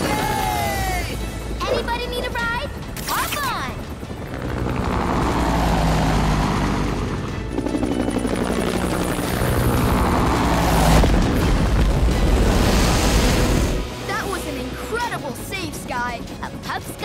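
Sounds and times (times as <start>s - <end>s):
background music: 0.0s - 17.0s
cartoon helicopter rotor chopping: 0.0s - 17.0s.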